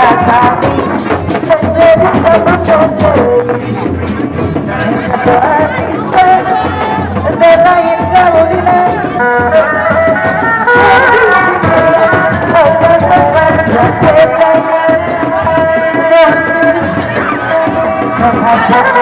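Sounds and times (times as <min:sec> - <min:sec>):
bending melody line: 0:00.0 - 0:19.0
rapid hand-drum strokes: 0:00.0 - 0:19.0.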